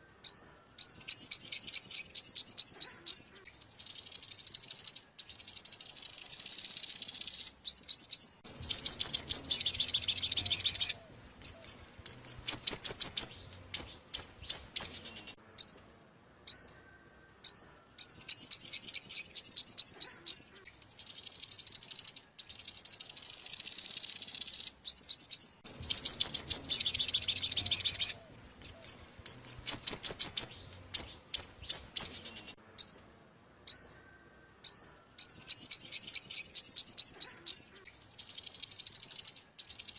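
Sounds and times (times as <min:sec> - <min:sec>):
sunbird chirps and trills: 0:00.0 - 0:39.9.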